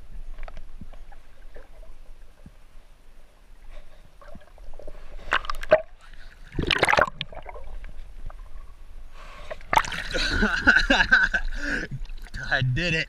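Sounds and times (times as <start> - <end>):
underwater bubbling: 0.0 - 12.6
water splashing and gurgling: 0.0 - 12.7.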